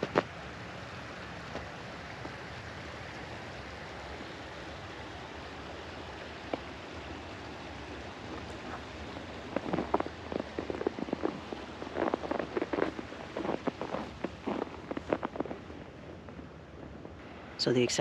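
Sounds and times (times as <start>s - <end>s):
creek rushing: 0.0s - 18.0s.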